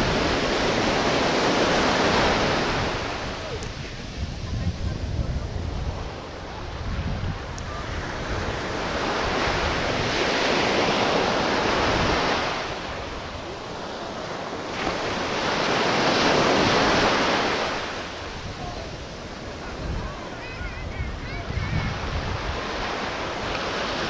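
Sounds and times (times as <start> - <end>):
ocean waves breaking on beach: 0.0 - 24.0
wind buffeting microphone: 0.0 - 24.0.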